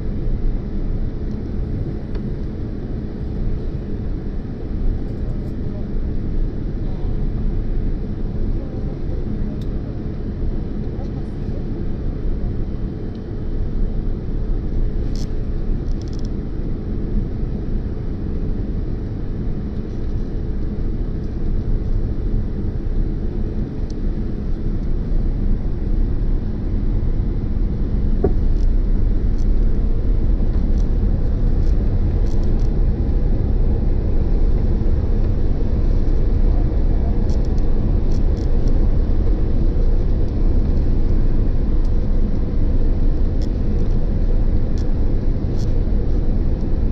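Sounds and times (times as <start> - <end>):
airliner engines and airflow rumble: 0.0 - 46.9.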